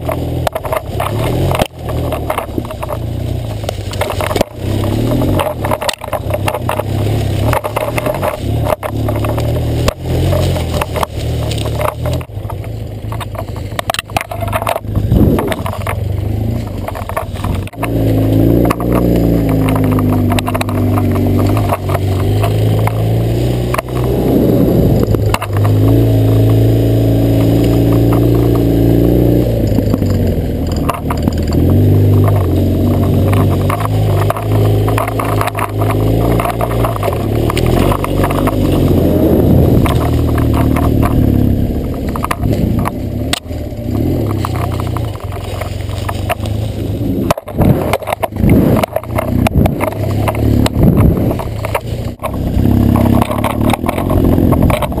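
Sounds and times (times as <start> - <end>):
knocks and clatter: 0.0 - 55.0
motorcycle engine revving: 0.0 - 55.0.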